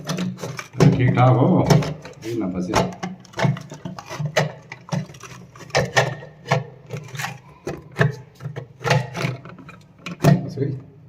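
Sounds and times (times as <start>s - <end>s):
plastic parts clicking into place: 0.0s - 10.9s.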